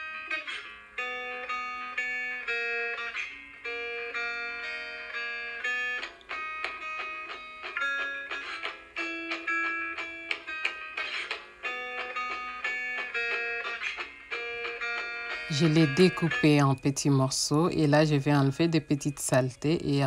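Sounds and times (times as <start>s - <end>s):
instrumental music with held notes: 0.0s - 20.0s.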